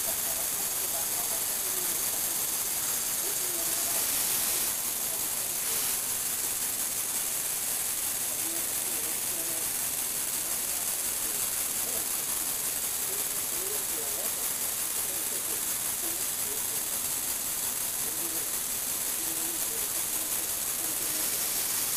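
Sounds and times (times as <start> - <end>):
toy motor and gears whirring: 0.0 - 21.9.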